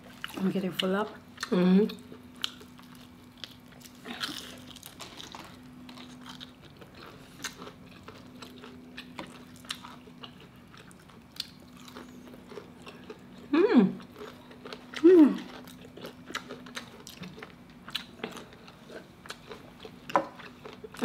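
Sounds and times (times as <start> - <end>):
faint steady hum: 0.0 - 21.0
crisp chewing crunches: 1.4 - 21.0.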